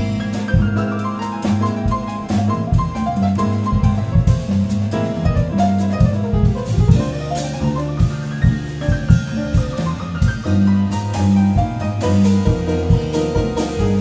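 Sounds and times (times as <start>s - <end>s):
drum kit and cymbals: 0.0s - 14.0s
jazz piano: 0.0s - 14.0s
plucked double bass: 0.0s - 14.0s.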